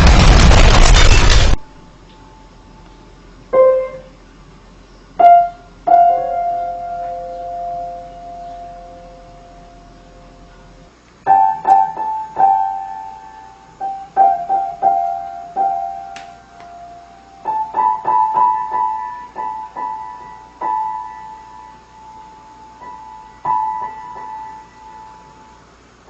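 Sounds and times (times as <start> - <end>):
piano notes: 3.5 - 4.2, 5.2 - 25.6.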